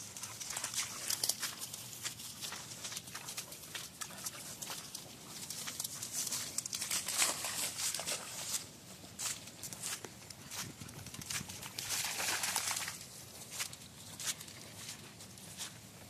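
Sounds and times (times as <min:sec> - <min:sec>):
dog splashing through puddles: 0:00.0 - 0:15.7.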